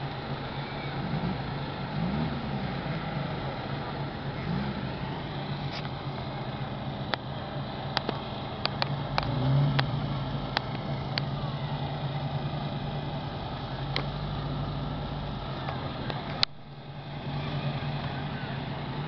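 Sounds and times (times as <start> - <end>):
car engines idling: 0.0 - 19.0
engine revving: 0.0 - 19.0.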